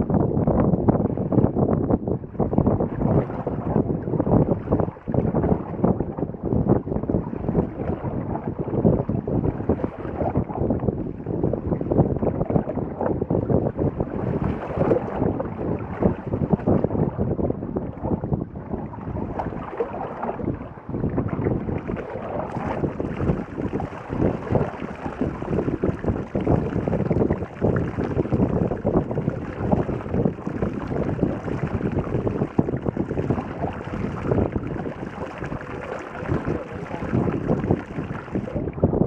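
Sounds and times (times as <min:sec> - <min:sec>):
boat on choppy water: 0:00.0 - 0:39.0
wind buffeting microphone: 0:00.0 - 0:39.0.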